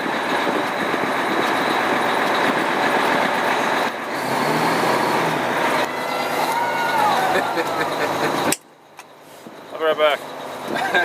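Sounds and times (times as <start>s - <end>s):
fire engine idling: 0.0s - 11.0s.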